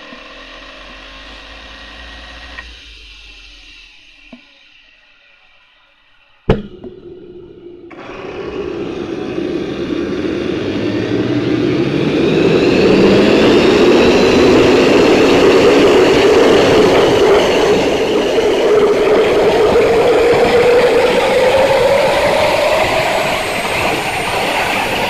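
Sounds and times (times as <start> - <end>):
turbine engine spooling up: 0.0 - 25.0.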